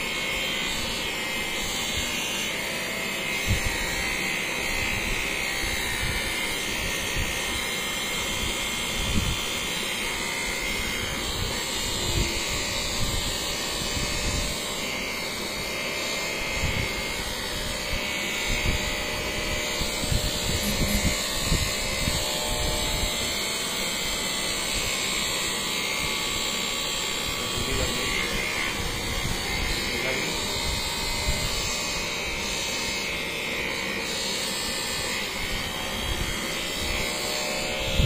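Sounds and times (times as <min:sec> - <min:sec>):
electric massager motor: 0:00.0 - 0:38.0.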